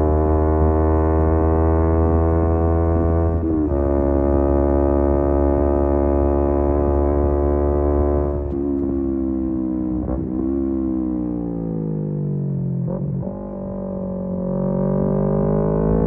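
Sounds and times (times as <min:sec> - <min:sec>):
motorcycle engine revving: 0:00.0 - 0:12.2, 0:12.8 - 0:16.0.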